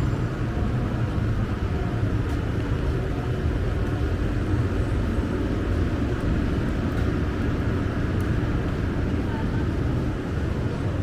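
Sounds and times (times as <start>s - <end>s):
city traffic on wet roads: 0.0s - 11.0s.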